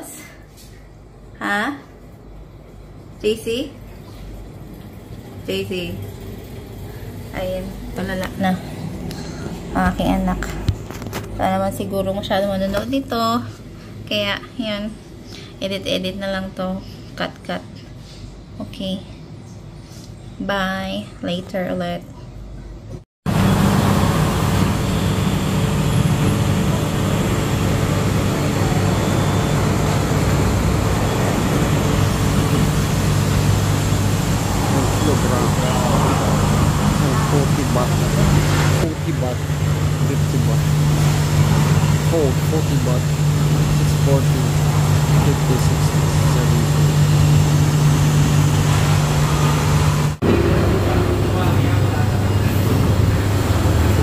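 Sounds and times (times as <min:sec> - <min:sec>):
washers and dryers running: 0:00.0 - 0:54.0.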